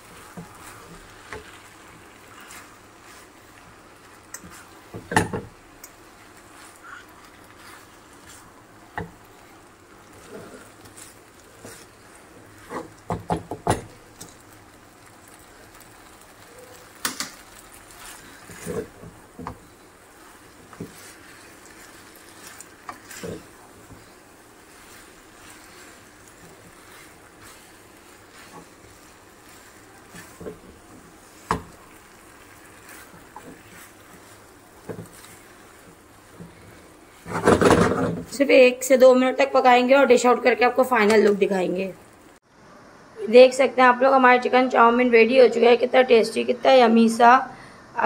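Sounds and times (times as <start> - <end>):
spatula scraping and knocking wok: 0.0 - 42.3.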